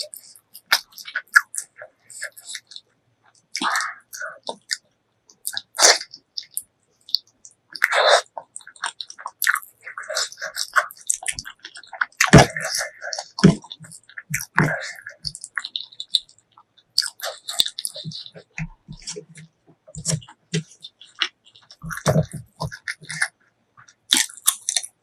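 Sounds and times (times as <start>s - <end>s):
wet chewing and smacking: 0.0s - 25.0s.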